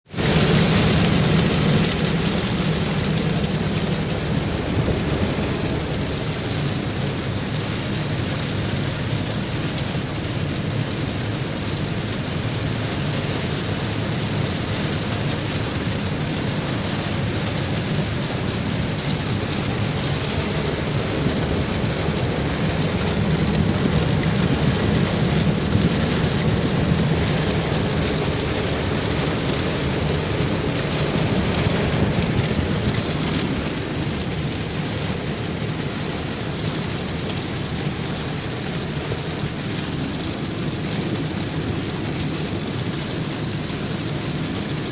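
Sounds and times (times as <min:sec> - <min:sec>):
steady rain falling: 0:00.1 - 0:44.9.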